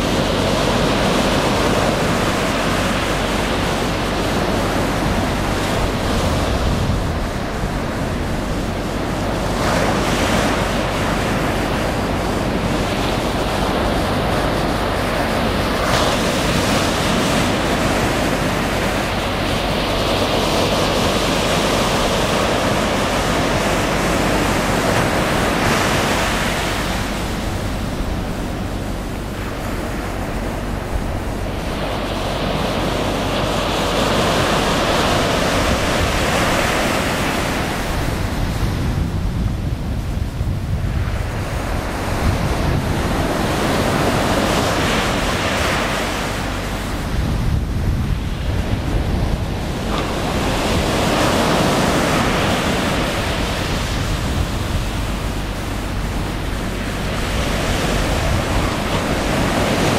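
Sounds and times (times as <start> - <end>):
surf washing up sand: 0.0 - 59.9.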